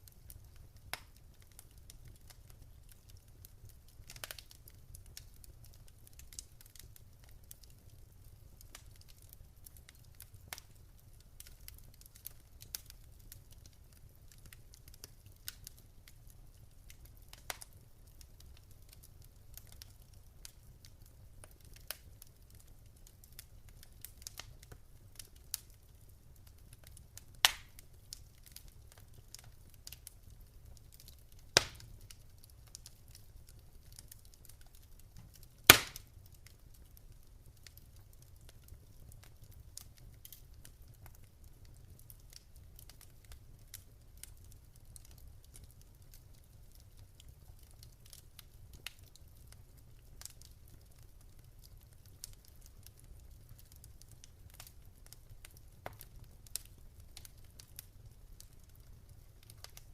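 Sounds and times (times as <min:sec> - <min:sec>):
sharp pops from fire: 0:00.0 - 0:49.5, 0:50.2 - 0:59.9
wood fire crackling: 0:00.0 - 0:59.9.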